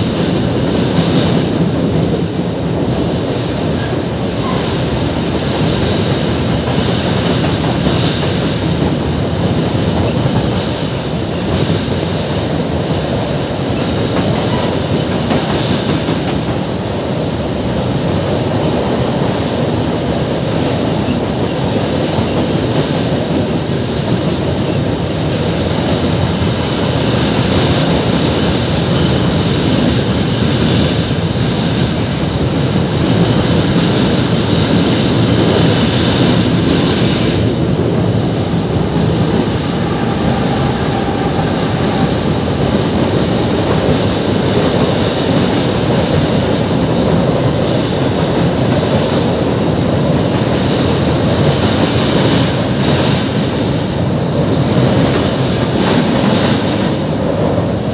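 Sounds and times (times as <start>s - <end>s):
train wheels rolling on bridge: 0.0s - 57.9s.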